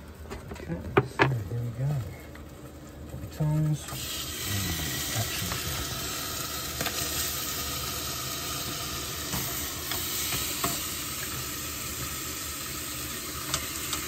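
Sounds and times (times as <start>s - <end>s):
meat sizzling in oil: 1.8s - 14.0s.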